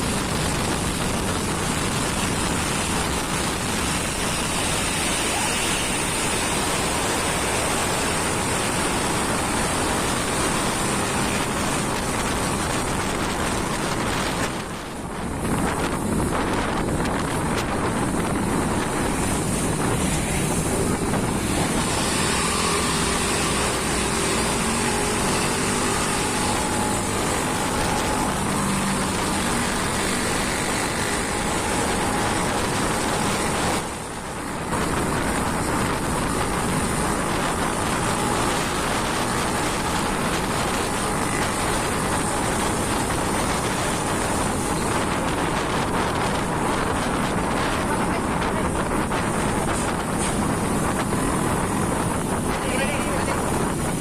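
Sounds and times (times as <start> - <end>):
truck engine drone: 0.0 - 54.0
tyre and wind noise: 0.0 - 54.0.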